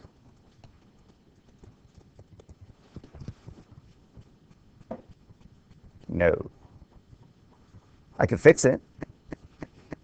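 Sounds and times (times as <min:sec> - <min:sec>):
faint tapping and knocking: 0:00.0 - 0:08.2.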